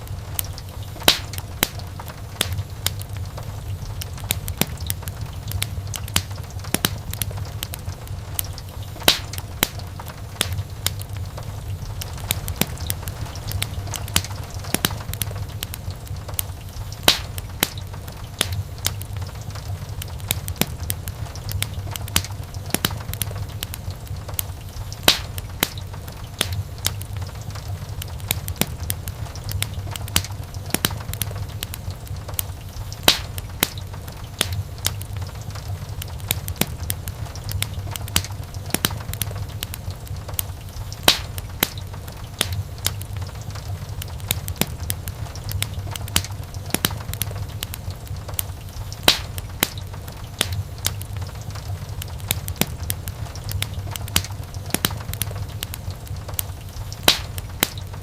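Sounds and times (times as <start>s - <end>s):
burning logs crackling and popping: 0.0s - 58.0s
low rumble of flames: 0.0s - 58.0s.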